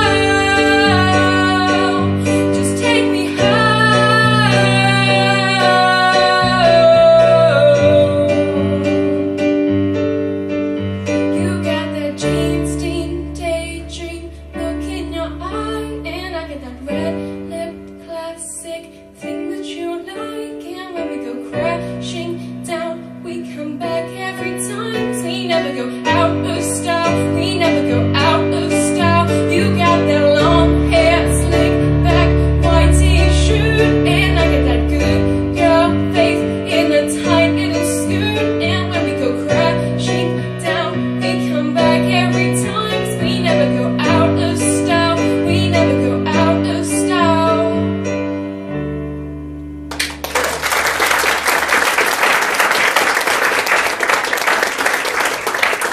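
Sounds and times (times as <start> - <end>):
woman singing into microphone: 0.0 - 9.2, 11.3 - 48.1
piano accompaniment: 0.0 - 55.9.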